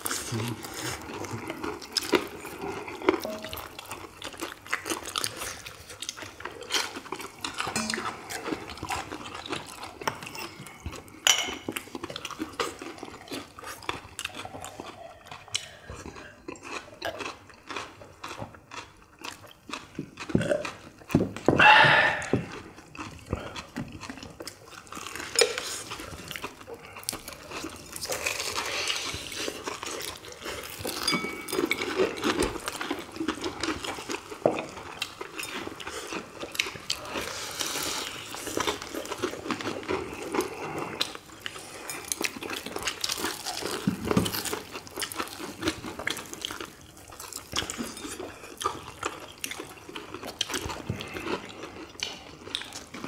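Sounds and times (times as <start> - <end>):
crunching fried chicken: 0.0 - 10.7, 11.8 - 53.0.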